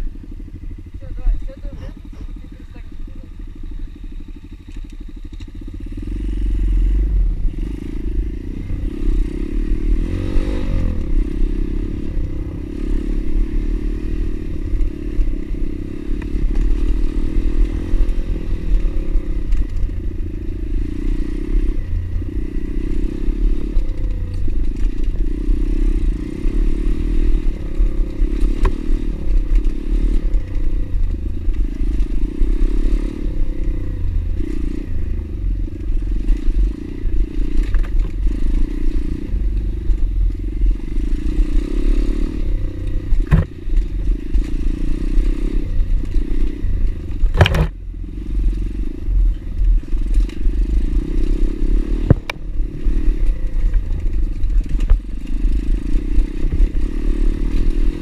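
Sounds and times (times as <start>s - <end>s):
single-cylinder bike engine running: 0.0s - 58.0s.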